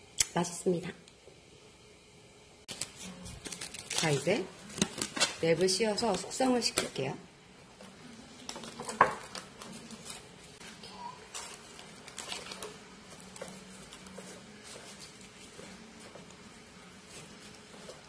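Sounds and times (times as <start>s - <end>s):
plastic cling wrap crinkling: 2.7s - 7.0s, 7.9s - 18.0s.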